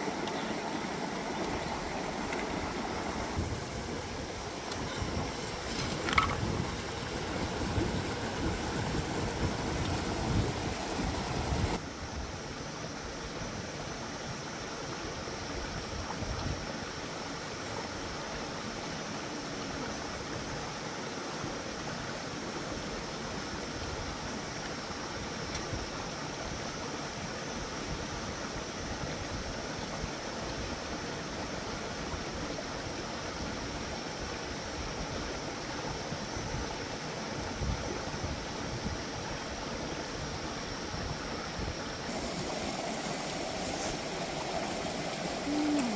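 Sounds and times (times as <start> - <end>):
stream running over rocks: 0.0 - 45.9.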